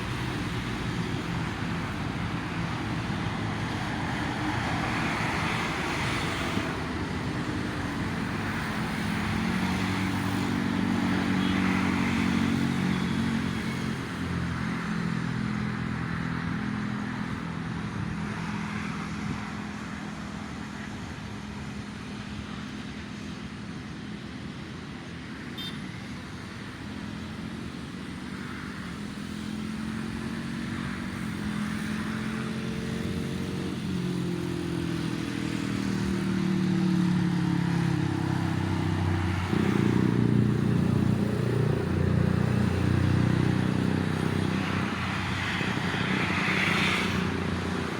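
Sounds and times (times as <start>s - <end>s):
passing vehicle engines: 0.0s - 47.9s.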